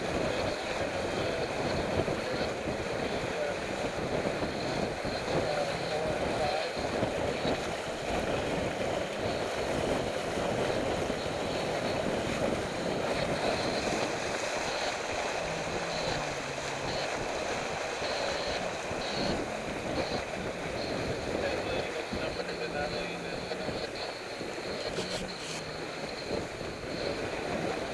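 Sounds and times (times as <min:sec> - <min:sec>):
water rushing along a hull: 0:00.0 - 0:27.9
wind buffeting the microphone: 0:00.0 - 0:27.9.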